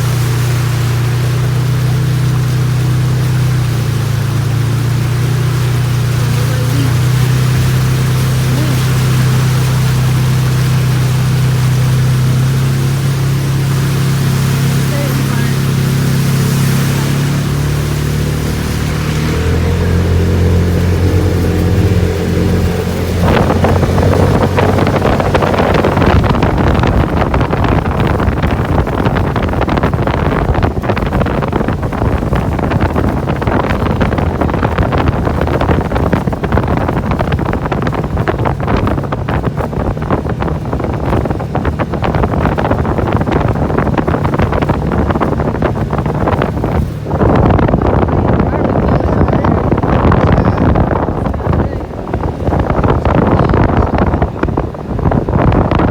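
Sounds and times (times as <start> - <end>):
car low hum: 0.0 - 55.9
water splashing against car: 0.0 - 55.9.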